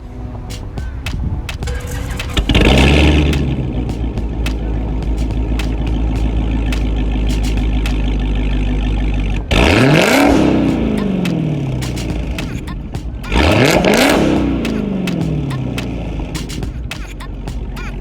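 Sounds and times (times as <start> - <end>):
car engine idling: 0.0 - 18.0
engine revving: 1.6 - 18.0.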